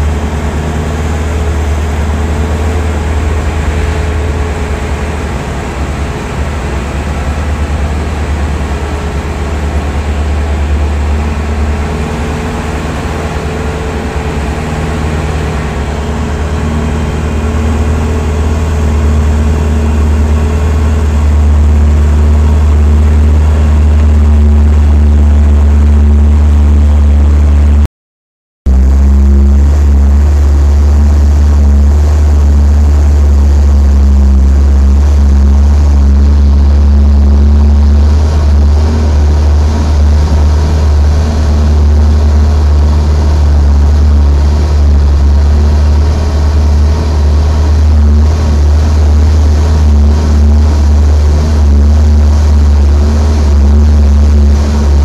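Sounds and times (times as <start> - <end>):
vehicle engine and road rumble: 0.0 - 27.9, 28.7 - 55.0.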